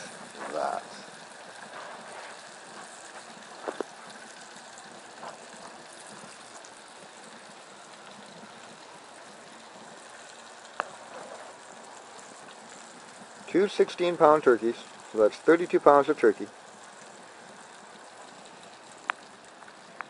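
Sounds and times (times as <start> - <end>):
barbecue sizzling: 0.0 - 20.0.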